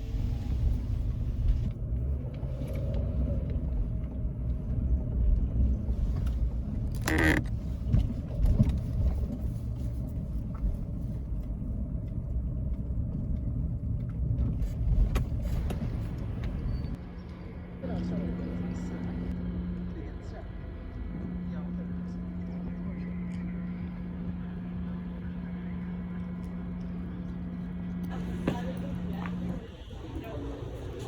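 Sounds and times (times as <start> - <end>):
van engine and road rumble: 0.0 - 31.0.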